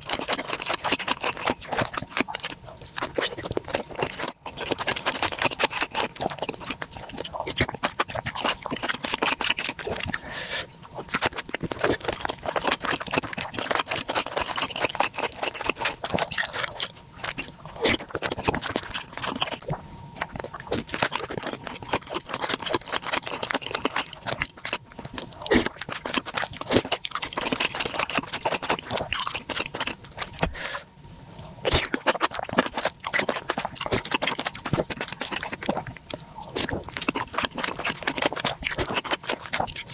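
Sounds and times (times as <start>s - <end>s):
wet chewing and mouth sounds: 0.0s - 39.9s.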